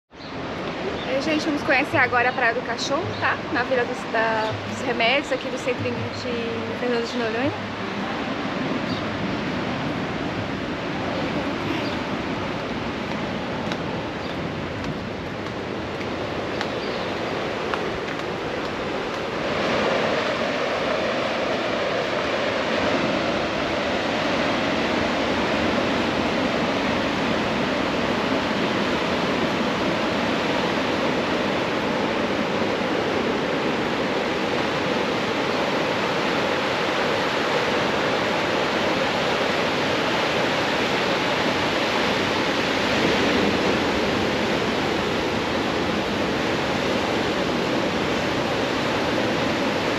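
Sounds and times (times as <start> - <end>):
ocean surf breaking on beach: 0.2 - 49.9.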